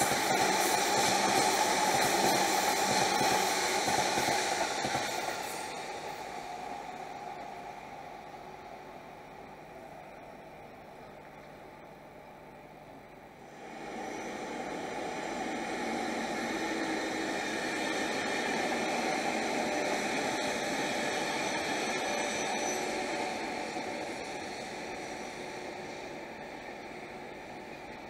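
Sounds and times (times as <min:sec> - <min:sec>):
train wheels rushing on rail: 0:00.0 - 0:12.6, 0:13.2 - 0:28.0.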